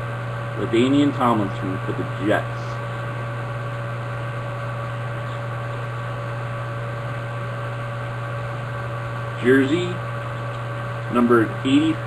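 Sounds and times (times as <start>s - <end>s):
constant hiss: 0.0s - 12.0s
electrical hum: 0.0s - 12.0s.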